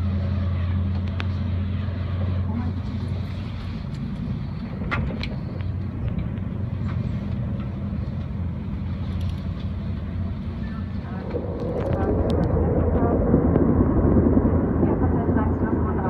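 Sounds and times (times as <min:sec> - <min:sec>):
train rumble from inside carriage: 0:00.0 - 0:16.0.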